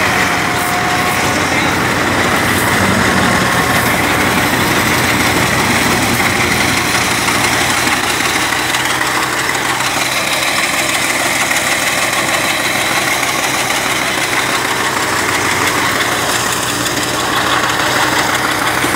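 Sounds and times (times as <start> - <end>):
thresher engine drone: 0.0 - 18.9
whir of drum and fan: 0.0 - 18.9.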